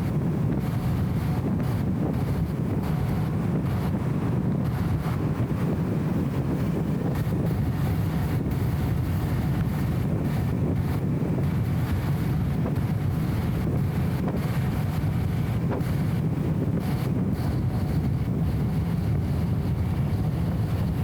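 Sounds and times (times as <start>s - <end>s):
muffled car engine rumble: 0.0s - 21.0s.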